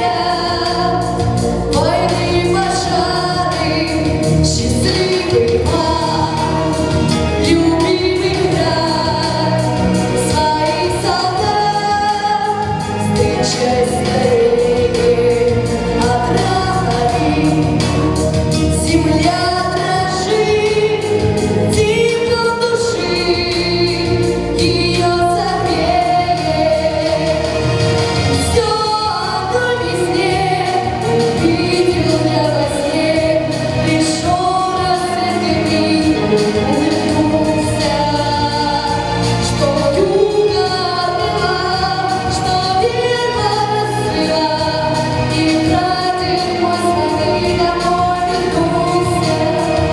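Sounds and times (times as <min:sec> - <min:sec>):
instrumental accompaniment with beat: 0:00.0 - 0:49.9
song with choir-like vocals: 0:00.0 - 0:49.9.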